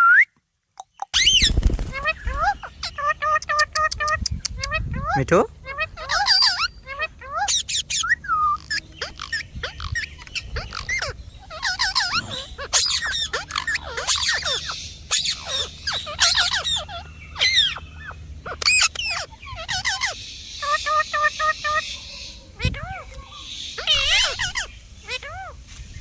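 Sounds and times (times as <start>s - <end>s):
parrot chirping: 0.8s - 25.6s.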